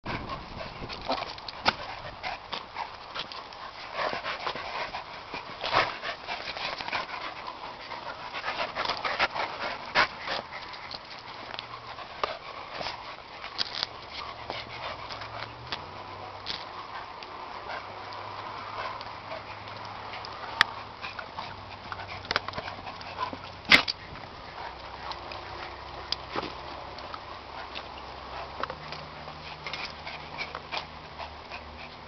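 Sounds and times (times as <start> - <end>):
dogs scuffling with clicks and scrapes: 0.1 - 32.0
small dogs panting: 0.1 - 32.0.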